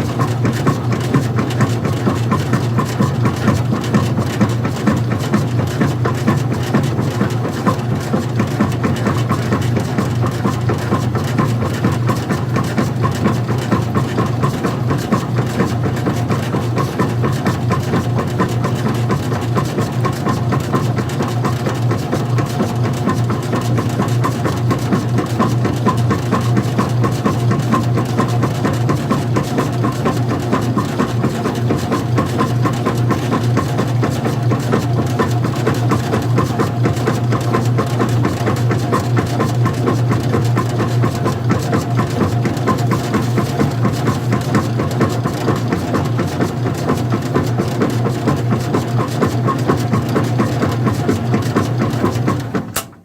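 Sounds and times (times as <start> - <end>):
washing machine running: 0.0 - 53.0.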